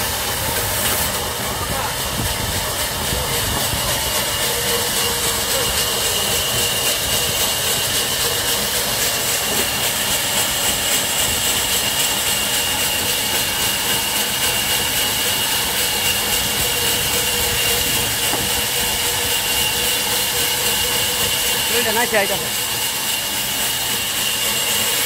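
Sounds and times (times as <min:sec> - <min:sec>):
band saw cutting a log: 0:00.0 - 0:25.0.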